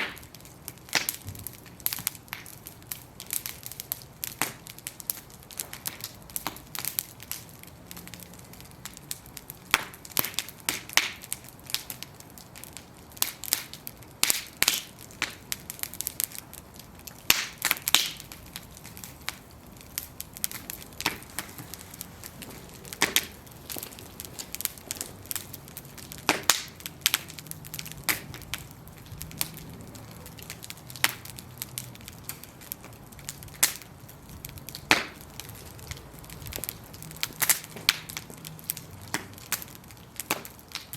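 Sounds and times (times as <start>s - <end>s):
bonfire crackling and popping: 0.0s - 40.9s
low hiss of flame: 0.0s - 40.9s.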